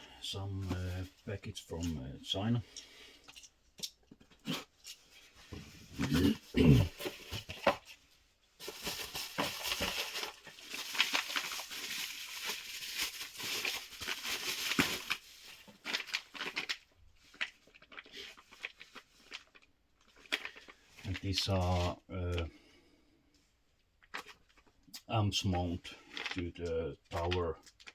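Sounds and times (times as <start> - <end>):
wrapping crackling and rustling: 0.3 - 22.6, 23.3 - 27.9.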